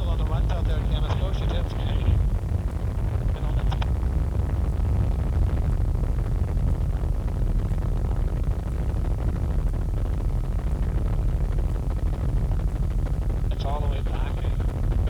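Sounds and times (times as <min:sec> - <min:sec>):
helicopter engine and rotor rumble: 0:00.0 - 0:15.0.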